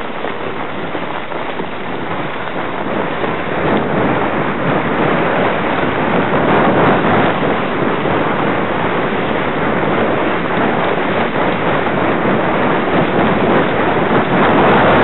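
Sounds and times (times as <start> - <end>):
sledge sliding over snow: 0.0 - 15.0
wind on microphone: 0.0 - 15.0.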